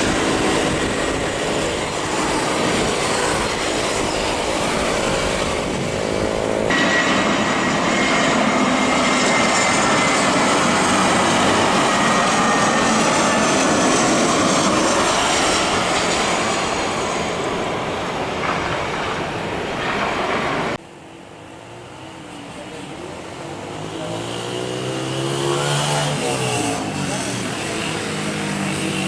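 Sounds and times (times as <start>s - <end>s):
jet airliner roar: 0.0s - 29.0s.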